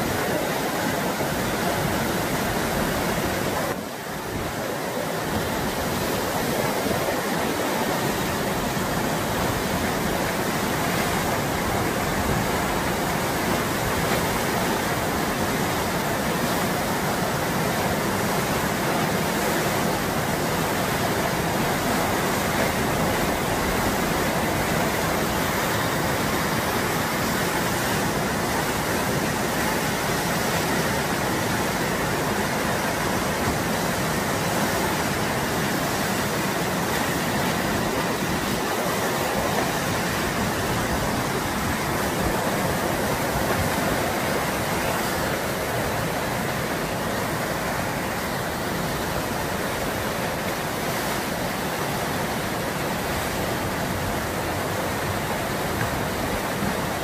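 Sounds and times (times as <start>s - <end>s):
white water rushing: 0.0s - 57.0s.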